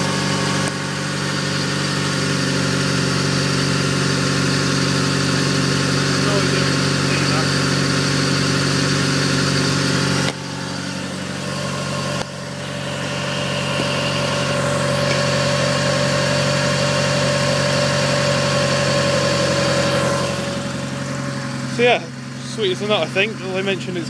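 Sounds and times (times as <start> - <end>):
loud car engine idling: 0.0 - 24.0.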